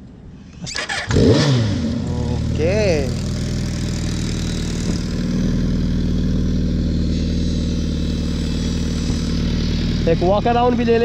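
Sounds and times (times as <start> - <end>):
motorcycle engine idling: 1.0 - 11.0.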